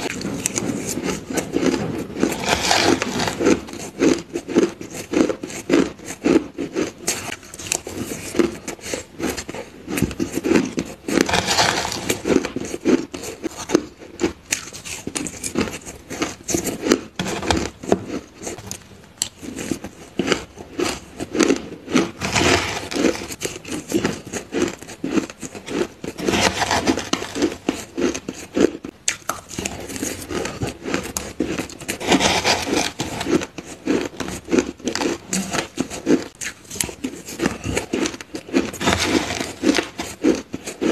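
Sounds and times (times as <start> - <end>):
chewing crushed ice: 0.0 - 40.9.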